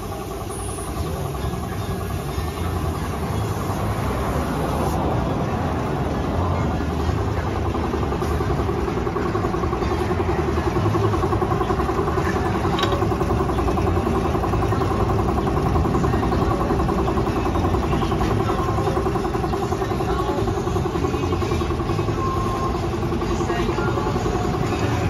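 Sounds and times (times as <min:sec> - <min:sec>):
piston air compressor running: 0:00.0 - 0:25.0.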